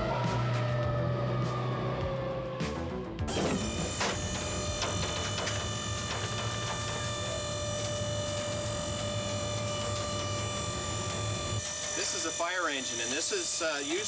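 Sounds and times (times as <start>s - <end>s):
machine hum with high whine: 0.0s - 14.0s.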